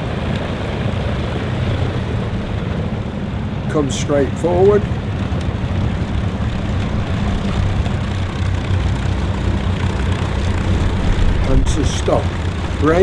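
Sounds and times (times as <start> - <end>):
propeller plane engines running: 0.0 - 13.0.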